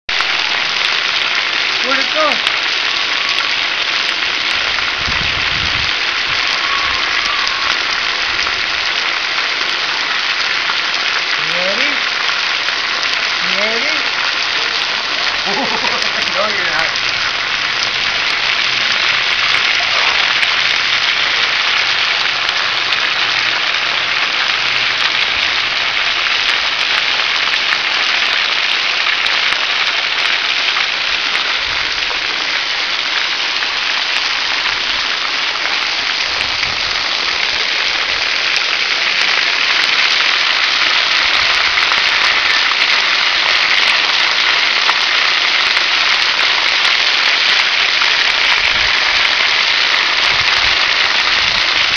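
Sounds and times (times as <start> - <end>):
water jets spraying: 0.1 - 51.9
water spattering on wet ground: 0.1 - 51.9.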